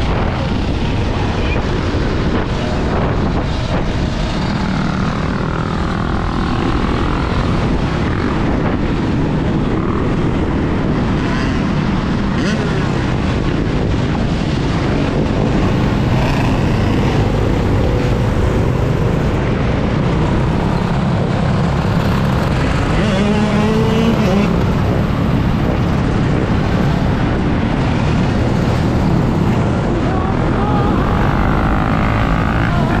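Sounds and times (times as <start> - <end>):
road and traffic noise: 0.0 - 33.0.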